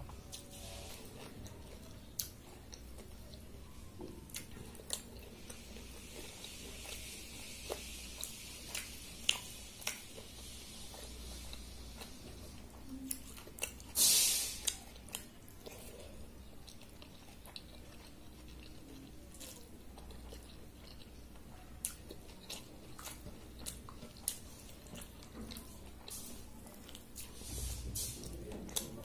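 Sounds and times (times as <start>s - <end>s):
chewing: 0.0s - 29.0s.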